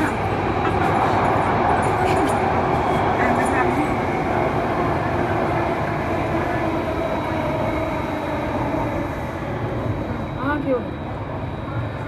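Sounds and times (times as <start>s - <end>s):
faint train whine: 0.0s - 12.0s
train wheels rumbling on rail: 0.0s - 12.0s.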